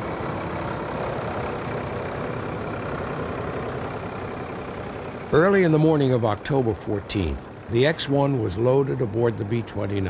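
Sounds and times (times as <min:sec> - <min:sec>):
engine rumble with mechanical hiss: 0:00.0 - 0:10.0.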